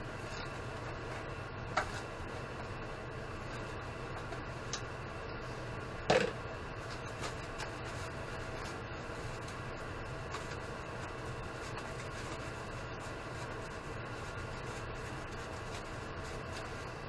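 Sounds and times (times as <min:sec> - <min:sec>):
room noise hum and hiss: 0:00.0 - 0:17.0.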